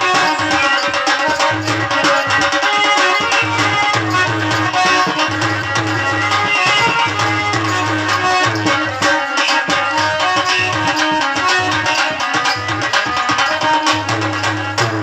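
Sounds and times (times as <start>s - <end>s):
hand drum beat: 0.0s - 15.0s.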